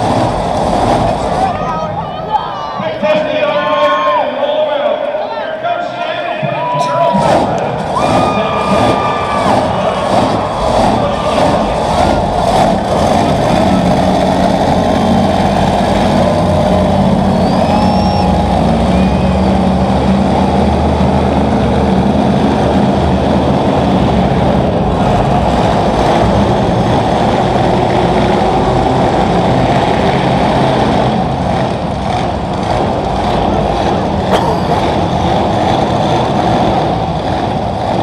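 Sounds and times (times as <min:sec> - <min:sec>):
monster truck engine running: 0:00.0 - 0:03.6, 0:06.8 - 0:38.0.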